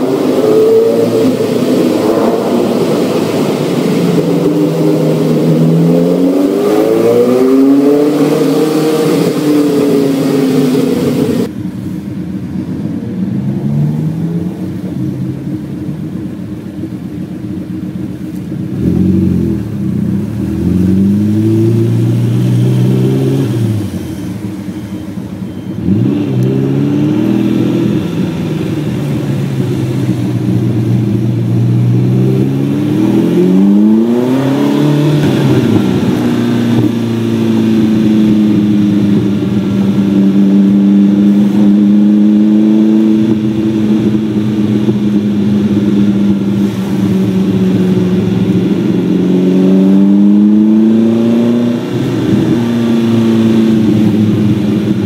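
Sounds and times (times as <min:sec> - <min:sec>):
sports car engine accelerating: 0:00.0 - 0:55.0.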